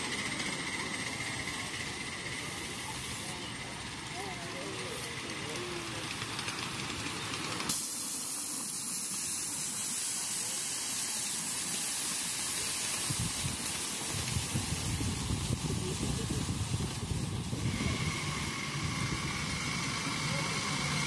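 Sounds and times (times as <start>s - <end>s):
steam locomotive venting steam: 0.0s - 21.0s.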